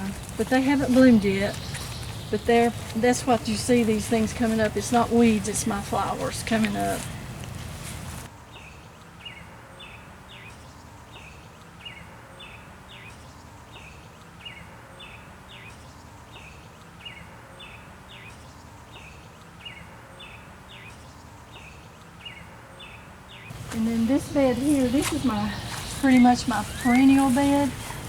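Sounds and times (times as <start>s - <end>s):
outdoor background noise: 0.0s - 28.0s
songbird chirping: 0.0s - 28.0s.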